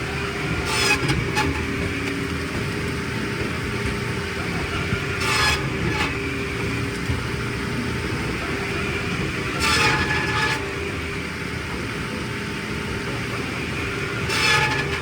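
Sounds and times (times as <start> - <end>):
machinery engine droning: 0.0 - 15.0.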